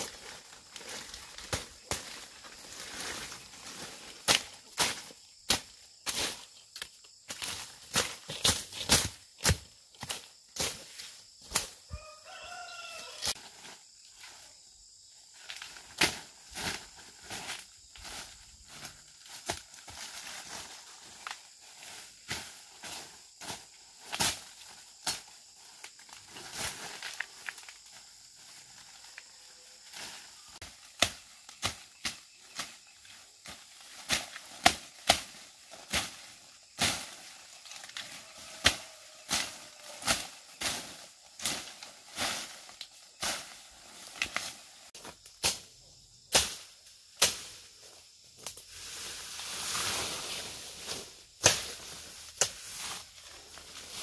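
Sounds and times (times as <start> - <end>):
leaves rustling: 0.0 - 54.0.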